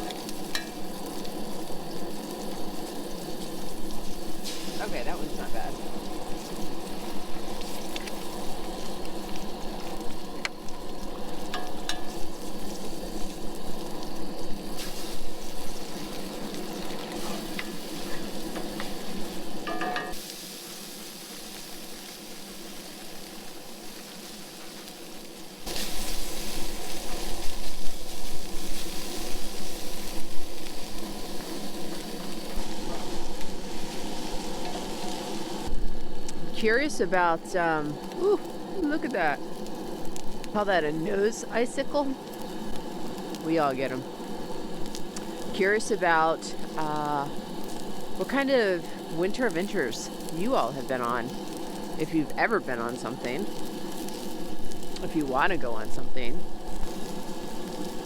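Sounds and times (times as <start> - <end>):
food sizzling in a skillet: 0.0 - 58.0.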